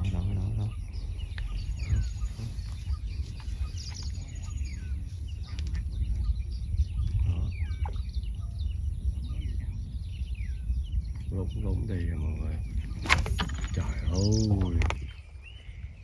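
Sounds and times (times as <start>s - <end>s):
birds chirping: 0.0s - 16.0s
steady low rumble: 0.0s - 16.0s.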